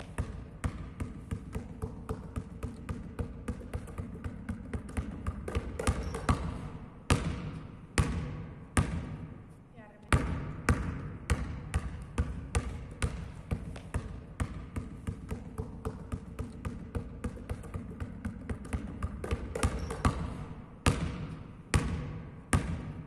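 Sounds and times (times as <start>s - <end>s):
basketball bouncing on hall floor: 0.0s - 23.0s.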